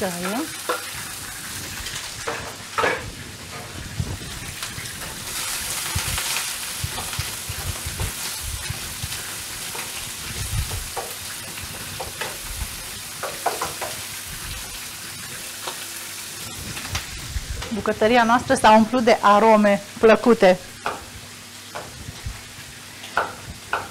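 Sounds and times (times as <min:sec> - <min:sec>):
onion and pork sizzling in oil: 0:00.0 - 0:23.9.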